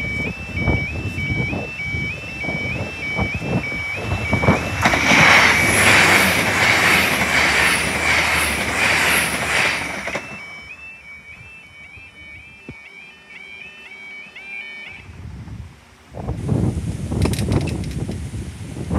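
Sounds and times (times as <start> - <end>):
two-tone crossing alarm: 0.0 - 16.0
train engine and wheel noise: 0.0 - 18.9.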